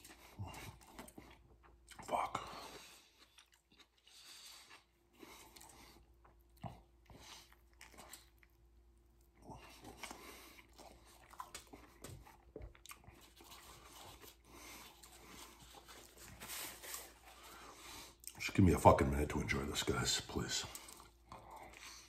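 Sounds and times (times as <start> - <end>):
man chewing food: 0.0 - 18.5, 20.6 - 22.0.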